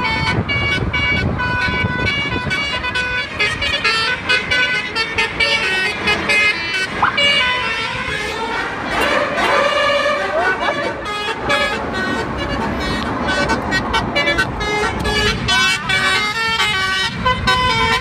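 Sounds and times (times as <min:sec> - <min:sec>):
bus engine rumble: 0:00.0 - 0:18.0
multi-tone bus horn tune: 0:00.0 - 0:18.0.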